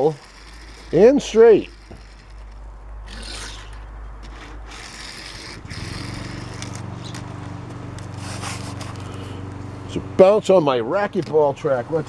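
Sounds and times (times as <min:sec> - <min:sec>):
steady low hum: 0:00.0 - 0:12.0
toy car scraping and rustling: 0:00.0 - 0:12.0.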